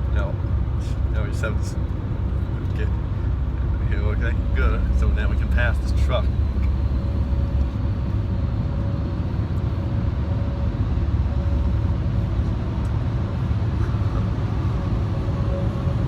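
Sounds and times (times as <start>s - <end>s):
car engine and tyre noise: 0.0s - 16.0s
faint steady hum: 0.0s - 16.0s.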